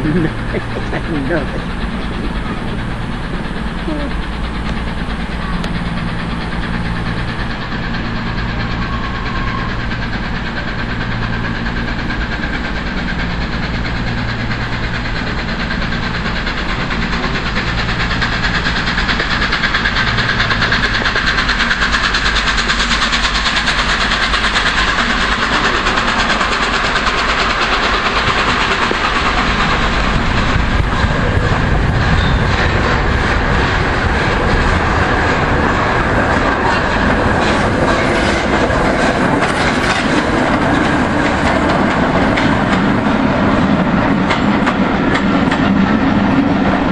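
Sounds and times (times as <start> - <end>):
steady low hum: 0.0 - 46.9
steam locomotive and train running: 0.0 - 46.9.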